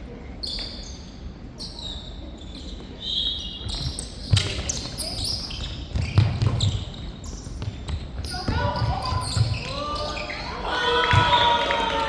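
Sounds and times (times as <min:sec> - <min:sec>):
sneakers squeaking on court floor: 0:00.4 - 0:11.3.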